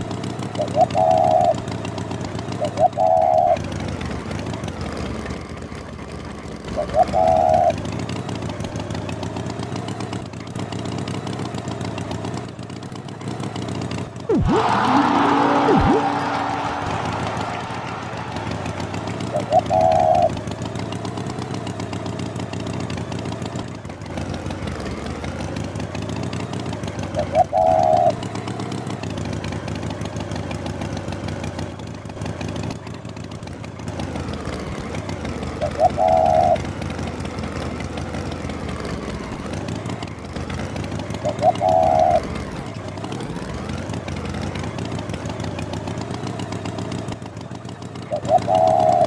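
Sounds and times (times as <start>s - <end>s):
engine running with putter: 0.0s - 49.0s.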